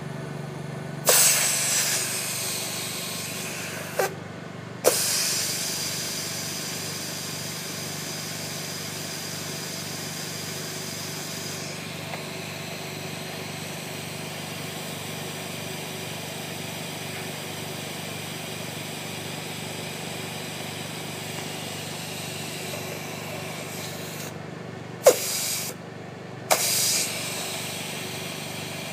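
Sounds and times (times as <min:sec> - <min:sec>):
motor hum: 0:00.0 - 0:28.9
valve clicking and venting air: 0:01.0 - 0:04.2, 0:04.8 - 0:24.4, 0:25.0 - 0:25.8, 0:26.5 - 0:28.9.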